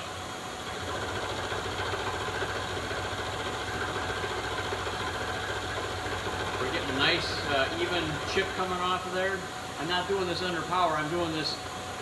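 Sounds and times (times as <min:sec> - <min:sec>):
milling machine cutting metal: 0:00.0 - 0:10.3.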